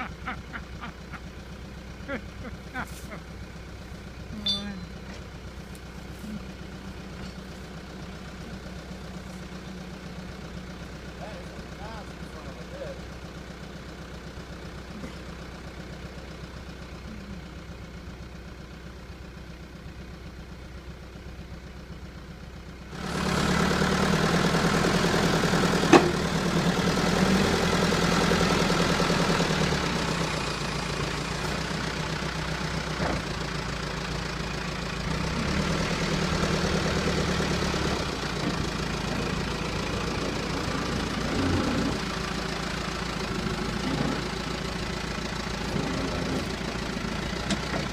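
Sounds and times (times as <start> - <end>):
backhoe engine: 0.0 - 47.9.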